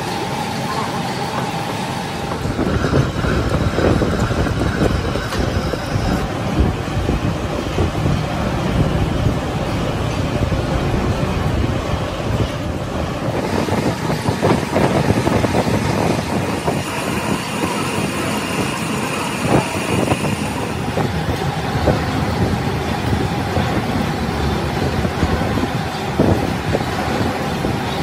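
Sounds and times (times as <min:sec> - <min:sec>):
workshop machinery running: 0:00.0 - 0:28.0.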